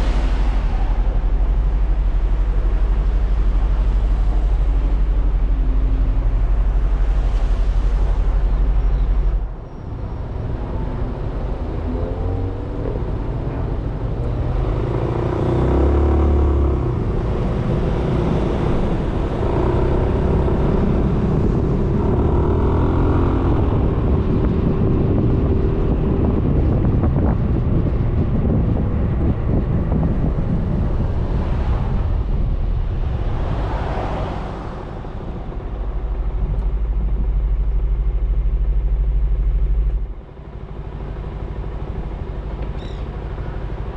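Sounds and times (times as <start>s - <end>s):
road rumble: 0.0s - 43.9s
wind noise: 0.0s - 43.9s.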